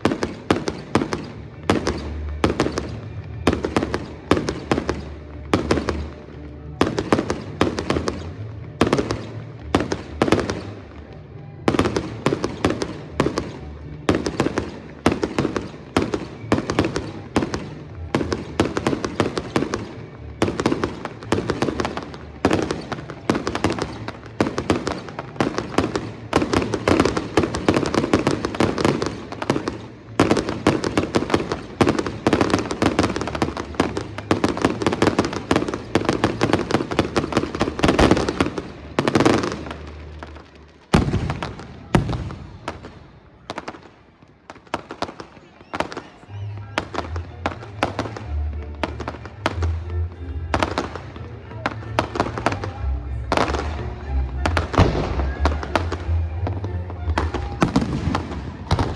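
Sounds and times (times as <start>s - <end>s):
fireworks bangs and crackle: 0.0s - 58.9s.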